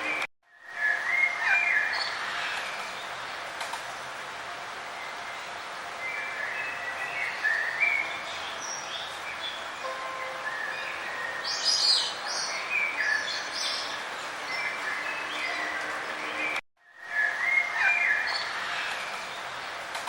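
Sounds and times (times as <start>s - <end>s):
outdoor background hiss: 0.0s - 20.0s
songbirds chirping and warbling: 0.0s - 20.0s.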